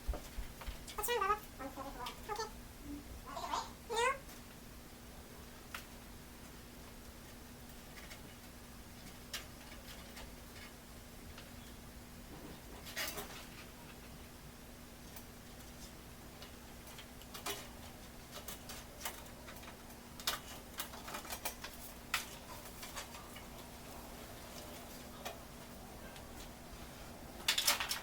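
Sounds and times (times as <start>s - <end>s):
faint hum: 0.0s - 28.0s.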